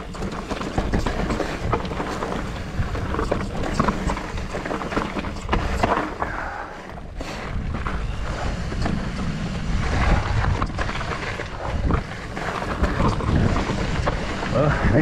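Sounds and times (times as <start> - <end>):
bike tyres crunching over rocks: 0.0 - 15.0
wind buffeting microphone: 0.0 - 15.0.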